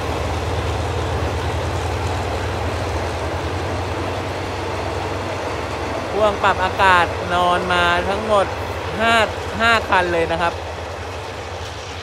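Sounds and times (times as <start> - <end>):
diesel locomotive engine drone: 0.0 - 12.0
train wheels rumbling on rails: 0.0 - 12.0.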